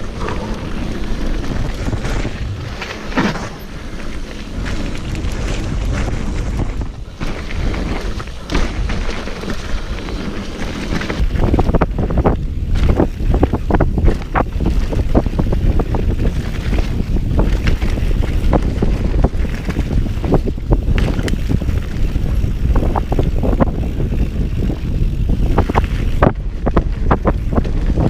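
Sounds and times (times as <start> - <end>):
bike knocks and rattles: 0.0 - 28.0
tyres rumbling on dirt: 0.0 - 28.0
wind buffeting microphone: 0.0 - 28.0.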